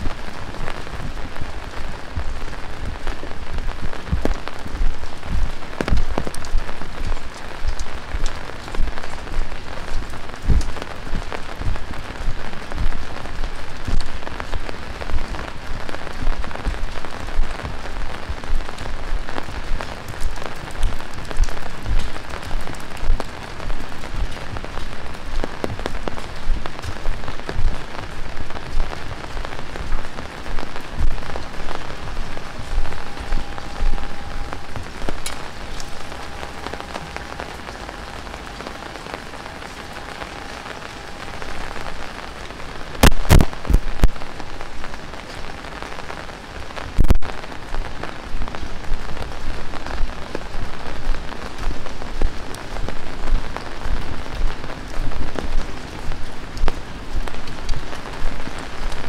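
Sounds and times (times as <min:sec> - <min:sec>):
heavy rain falling: 0:00.0 - 0:59.0
sharp raindrop hits: 0:00.0 - 0:59.0.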